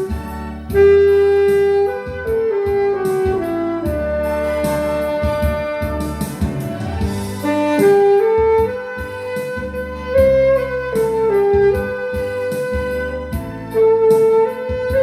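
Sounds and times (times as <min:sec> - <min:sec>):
alto saxophone melody: 0:00.0 - 0:15.0
bass: 0:00.0 - 0:15.0
steady drum beat: 0:00.0 - 0:15.0.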